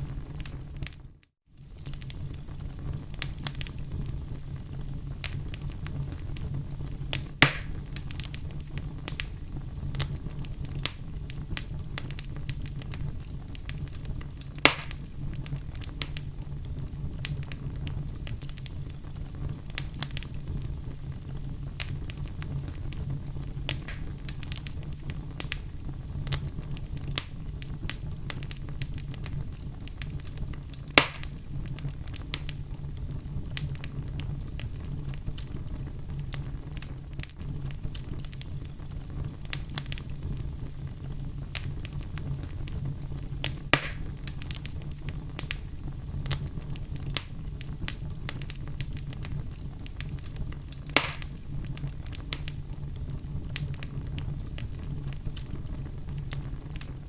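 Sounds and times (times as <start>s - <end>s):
loud fire pops: 0.0s - 57.0s
wood fire crackling: 0.0s - 57.0s.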